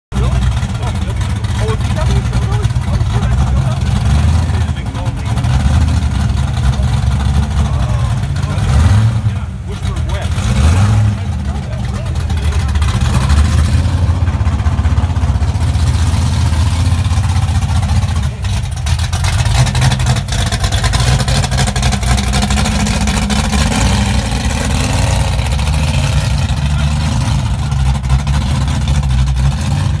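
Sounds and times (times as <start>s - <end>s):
car engine with pulsing exhaust: 0.1s - 30.0s.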